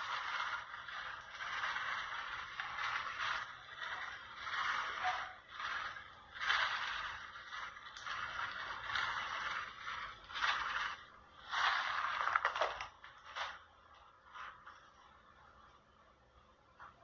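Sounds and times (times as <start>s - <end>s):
kitchen utensil scraping: 0.0s - 13.7s.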